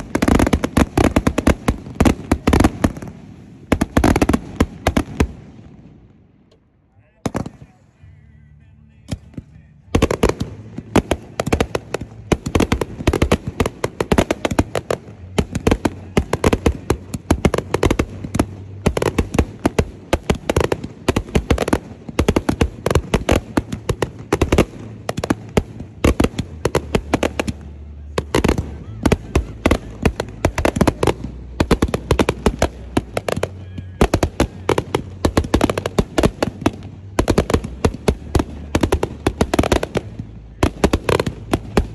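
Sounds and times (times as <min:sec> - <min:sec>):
fireworks cracking and popping: 0:00.0 - 0:06.1, 0:07.0 - 0:08.2, 0:09.0 - 0:41.9.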